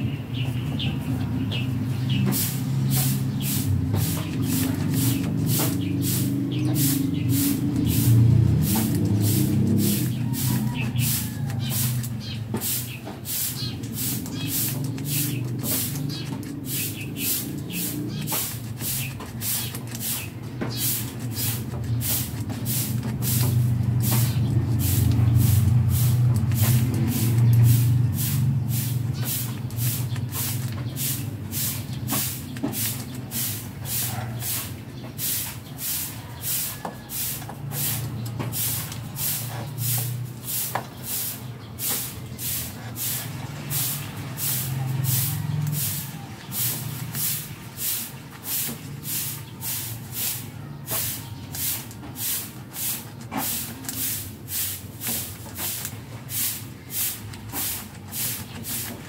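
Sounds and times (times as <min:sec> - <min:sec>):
rhythmic hissing scrape: 0:01.8 - 0:59.0.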